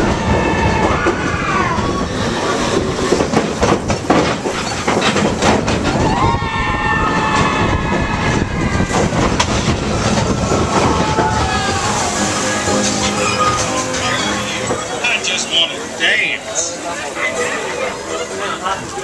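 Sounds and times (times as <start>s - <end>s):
wheels squealing: 0.0s - 16.0s
track clacks: 0.0s - 17.3s
roller coaster rumbling on track: 0.0s - 19.0s.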